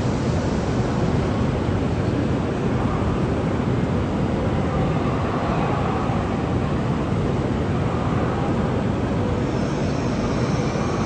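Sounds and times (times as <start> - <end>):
railway station rumble and hiss: 0.0 - 11.0.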